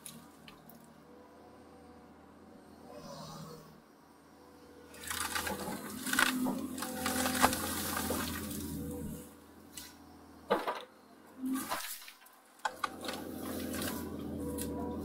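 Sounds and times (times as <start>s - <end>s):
diesel engine humming: 0.0s - 11.8s, 12.4s - 15.0s.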